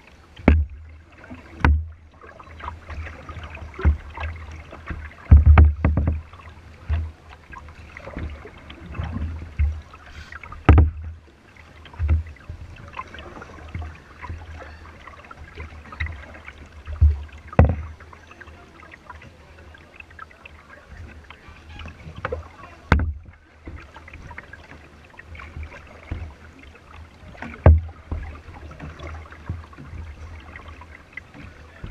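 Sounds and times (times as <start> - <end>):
knocks and thumps against hull: 0.0 - 31.9
water splashing against a kayak: 0.0 - 31.9.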